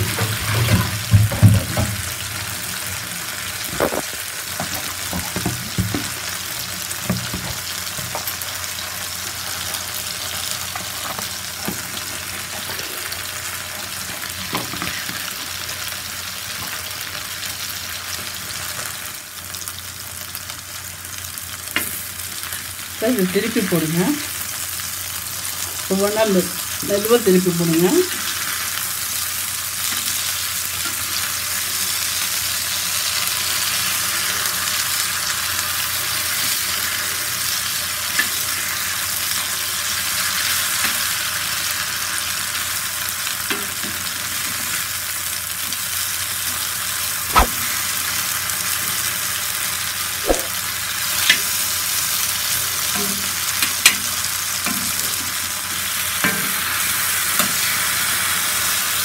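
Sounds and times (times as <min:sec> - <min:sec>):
plantain slices sizzling in oil: 0:00.0 - 0:59.0.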